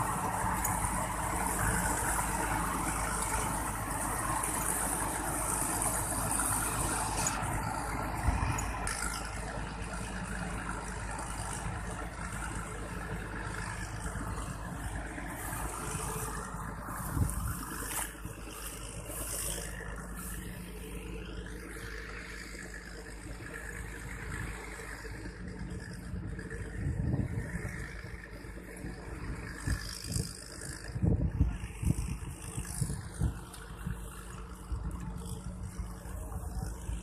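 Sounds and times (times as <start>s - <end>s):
harvester engine running: 0.0s - 37.0s.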